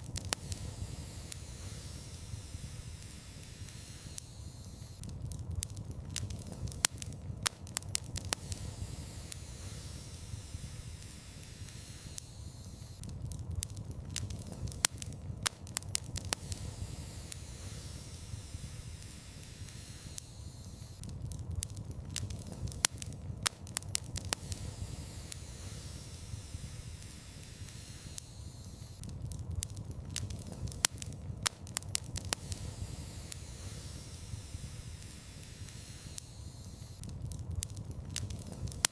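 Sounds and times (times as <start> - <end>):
low rumble and hiss: 0.0 - 38.9
sharp pops from fire: 0.0 - 38.9
wood fire crackling: 0.0 - 38.9.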